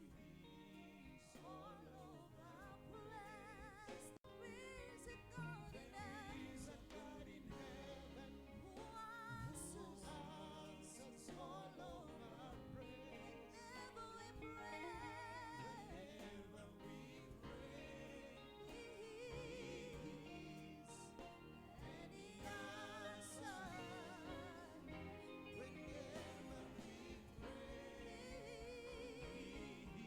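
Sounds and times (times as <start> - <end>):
person singing with vibrato: 0.0 - 30.0.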